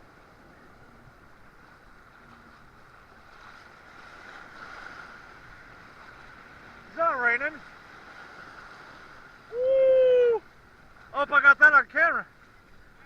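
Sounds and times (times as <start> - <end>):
sea water washing: 0.0 - 13.0.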